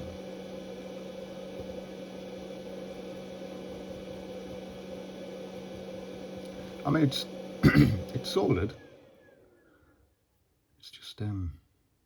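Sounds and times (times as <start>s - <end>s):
electrical hum with hiss: 0.0s - 9.7s.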